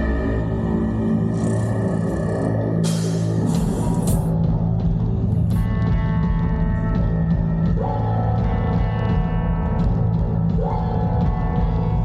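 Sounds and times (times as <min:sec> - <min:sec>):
loud rock music with electric guitar: 0:00.0 - 0:12.0.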